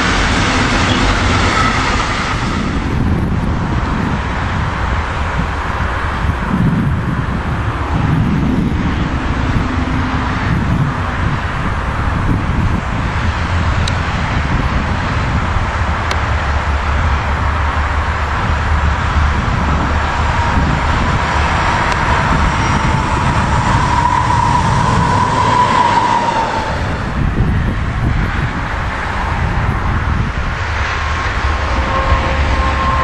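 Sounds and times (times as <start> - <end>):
diesel locomotive passing: 0.0 - 33.0
steady whine: 0.0 - 33.0.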